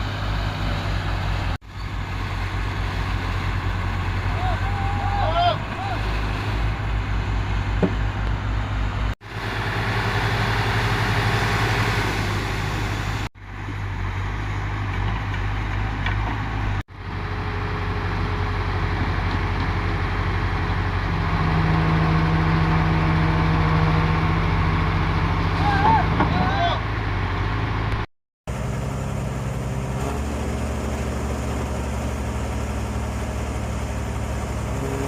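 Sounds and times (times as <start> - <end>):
heavy diesel engine machinery running: 0.0 - 15.7, 16.7 - 35.0.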